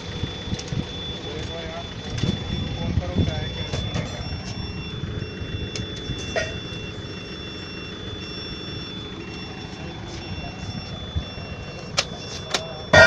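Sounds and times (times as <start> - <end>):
alternating electronic warning beep: 0.0 - 13.0
continuous high whine: 0.0 - 13.0
low engine rumble: 0.0 - 13.0.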